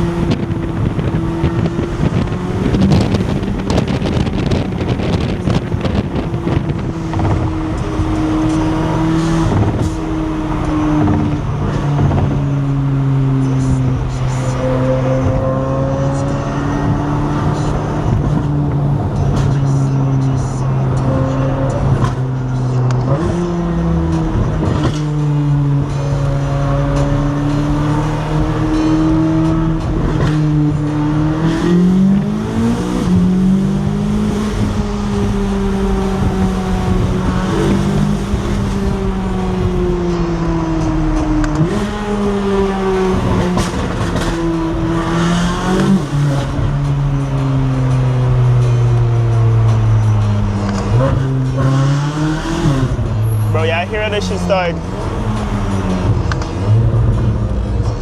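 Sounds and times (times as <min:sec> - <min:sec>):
road and tyre noise: 0:00.0 - 0:58.0
sports car engine cruising: 0:00.0 - 0:58.0.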